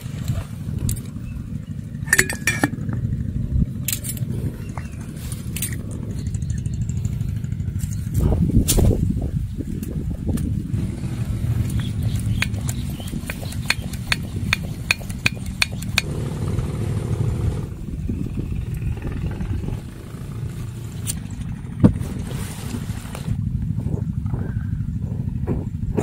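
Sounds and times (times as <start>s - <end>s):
low rumble: 0.0s - 13.2s, 16.0s - 26.0s.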